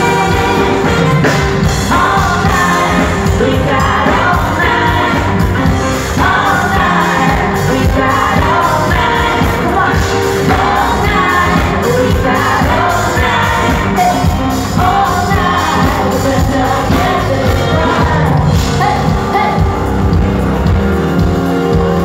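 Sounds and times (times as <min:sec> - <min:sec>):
lead vocalist singing: 0:00.0 - 0:20.2
live pop-rock band playing: 0:00.0 - 0:22.0.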